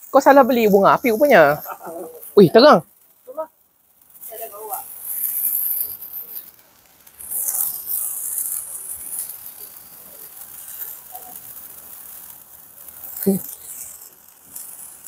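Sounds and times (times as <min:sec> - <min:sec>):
sparkler fizzing and crackling: 0:00.0 - 0:15.0.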